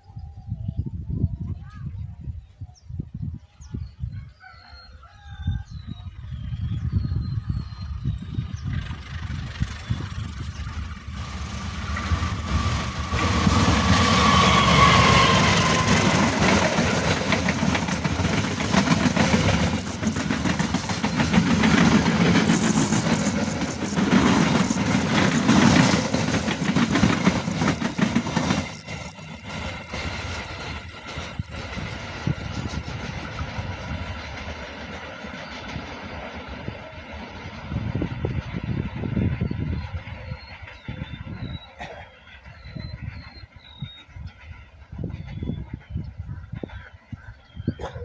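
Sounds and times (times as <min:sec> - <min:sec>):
train passing close by: 0:04.9 - 0:48.0
train wheels rolling: 0:07.4 - 0:47.2.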